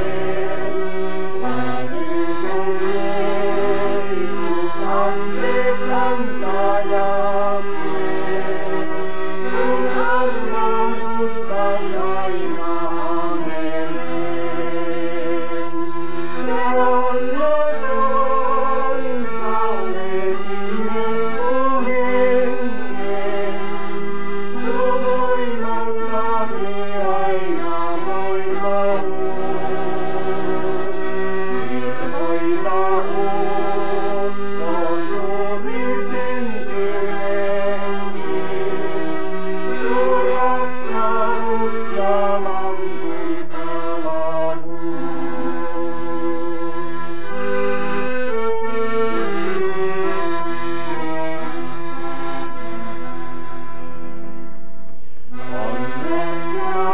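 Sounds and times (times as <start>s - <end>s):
person singing: 0.0s - 51.5s, 55.3s - 56.9s
accordion chords: 0.0s - 56.9s.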